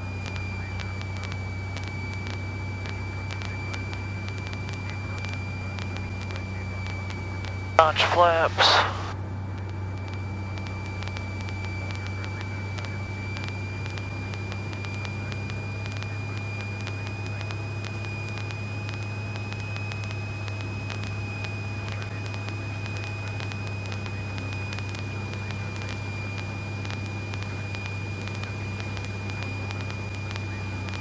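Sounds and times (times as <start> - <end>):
airplane engine and propeller drone: 0.0 - 31.0
constant high whine: 0.0 - 31.0.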